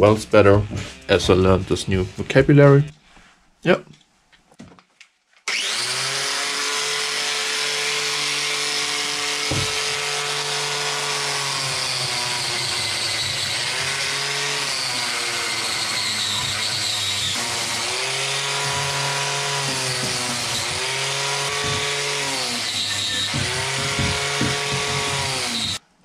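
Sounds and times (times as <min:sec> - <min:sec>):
angle grinder wire brush on metal: 0:00.0 - 0:02.9, 0:05.6 - 0:25.8.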